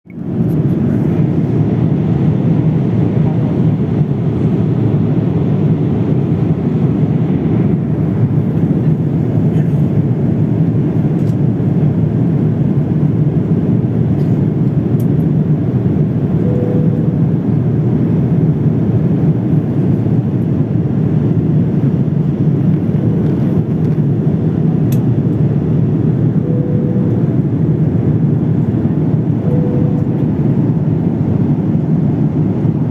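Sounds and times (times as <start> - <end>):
airliner cabin engine drone: 0.1 - 32.9.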